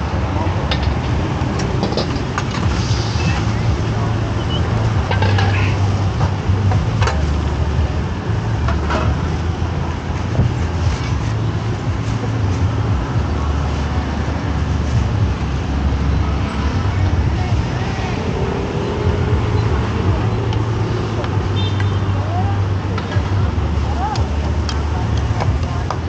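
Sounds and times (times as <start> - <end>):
traffic engine rumble: 0.0 - 26.0.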